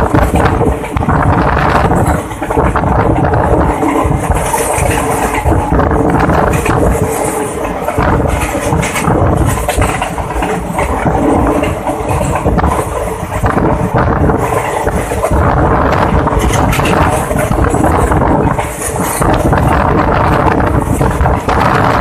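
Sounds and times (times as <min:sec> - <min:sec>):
train wheels rumbling on rails: 0:00.0 - 0:22.0
wind buffeting microphone: 0:00.0 - 0:22.0.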